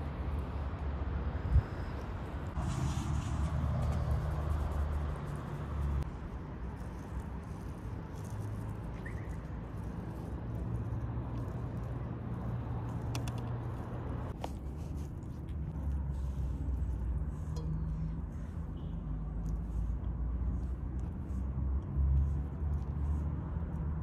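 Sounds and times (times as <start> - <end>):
low rumble of city traffic: 0.0 - 24.0.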